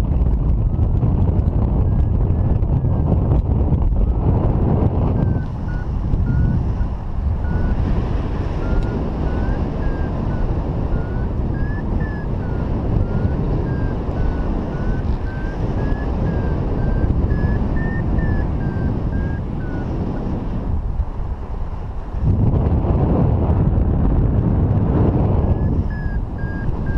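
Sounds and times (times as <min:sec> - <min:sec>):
wind rushing over microphone: 0:00.0 - 0:26.9
variometer beeping: 0:00.6 - 0:20.6, 0:25.1 - 0:26.9.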